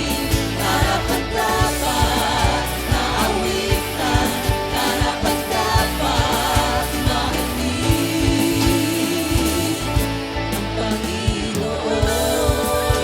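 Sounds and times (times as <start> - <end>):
band chords and bass: 0.0 - 13.0
person singing: 0.0 - 13.0
steady drum beat: 0.0 - 13.0.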